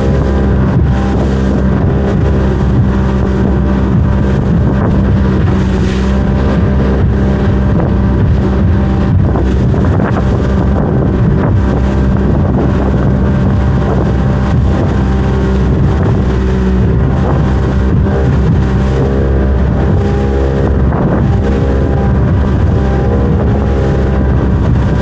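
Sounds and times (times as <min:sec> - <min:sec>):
outboard motor droning: 0:00.0 - 0:25.0
wind on microphone: 0:00.0 - 0:25.0.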